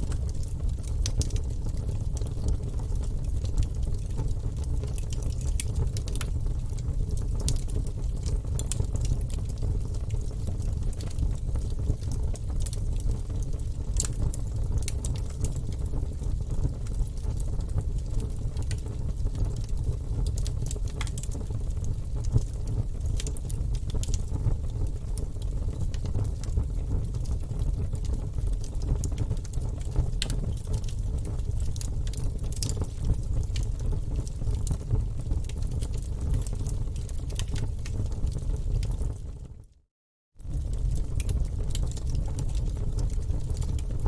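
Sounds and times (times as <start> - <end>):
fire flames rumbling: 0.0 - 39.4, 40.4 - 44.0
logs crackling and popping: 0.1 - 16.0, 18.5 - 24.8, 25.4 - 39.1, 40.4 - 43.9.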